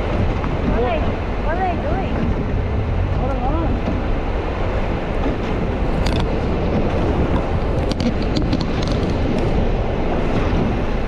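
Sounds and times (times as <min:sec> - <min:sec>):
low steady rumble: 0:00.0 - 0:11.0
wind buffeting microphone: 0:00.0 - 0:11.0.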